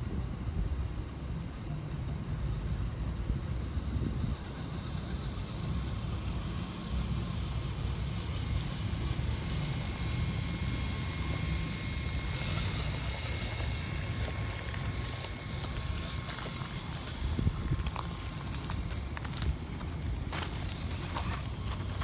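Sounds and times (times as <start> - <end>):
electric motor whine: 0.1 - 22.0.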